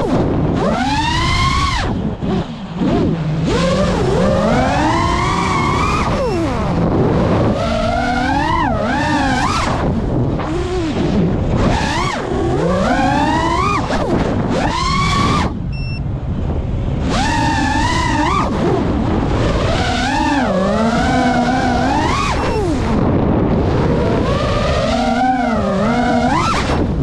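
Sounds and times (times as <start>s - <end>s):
drone motors whining: 0.0s - 16.0s, 17.0s - 27.0s
wind rush on microphone: 0.0s - 27.0s.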